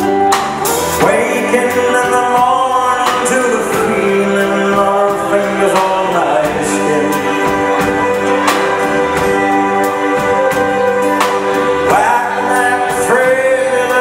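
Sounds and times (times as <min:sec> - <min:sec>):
acoustic guitar: 0:00.0 - 0:14.0
drums with cymbal hits: 0:00.0 - 0:14.0
electric bass: 0:00.0 - 0:14.0
person singing long notes: 0:01.0 - 0:14.0.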